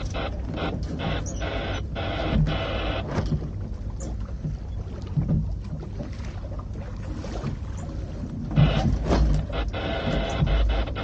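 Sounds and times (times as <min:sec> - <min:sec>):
water noise: 0:00.0 - 0:11.0.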